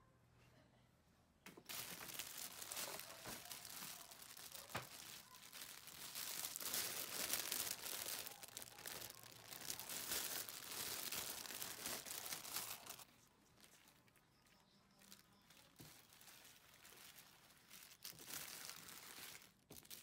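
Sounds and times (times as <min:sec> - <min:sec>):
plastic packaging crinkling: 0:01.6 - 0:20.0.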